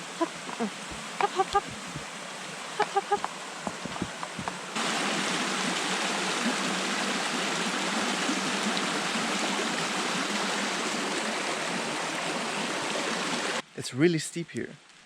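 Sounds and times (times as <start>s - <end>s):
stream water rushing: 0.0s - 13.6s.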